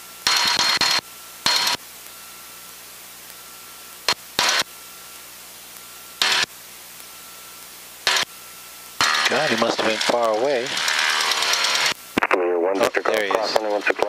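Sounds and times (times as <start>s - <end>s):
steady low hiss: 0.0s - 10.8s, 11.9s - 14.0s
radio static bursts: 0.2s - 14.0s.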